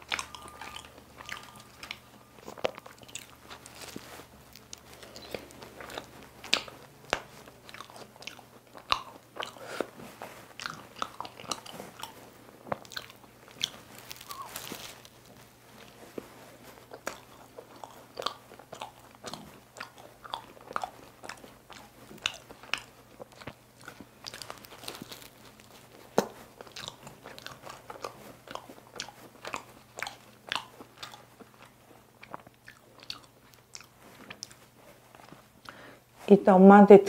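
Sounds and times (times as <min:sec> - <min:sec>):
biting and chewing pastry: 0:00.0 - 0:36.2
crisp crust crackles: 0:00.0 - 0:36.3.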